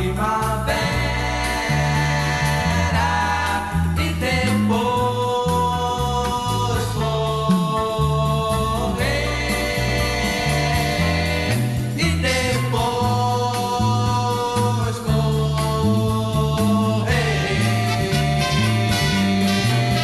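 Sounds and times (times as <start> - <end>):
bouncing bass line: 0.0 - 20.0
voices singing without words: 0.0 - 20.0.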